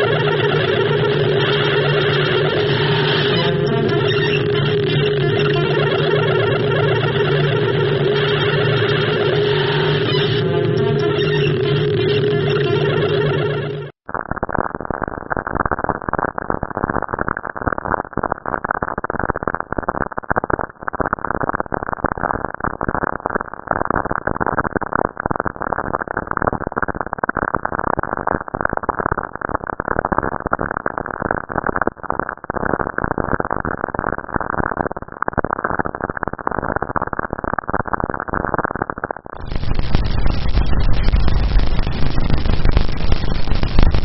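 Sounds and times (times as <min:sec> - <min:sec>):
muffled static crackle: 0:00.0 - 0:44.0.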